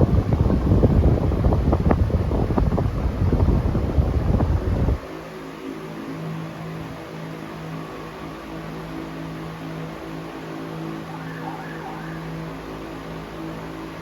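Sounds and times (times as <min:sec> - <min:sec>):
fan motor hum: 0:00.0 - 0:14.0
rush of air from fan: 0:00.0 - 0:14.0.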